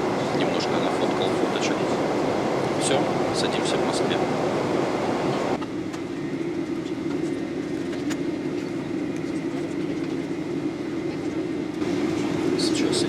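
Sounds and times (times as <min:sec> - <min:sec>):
jet cabin engine hum: 0:00.0 - 0:13.0.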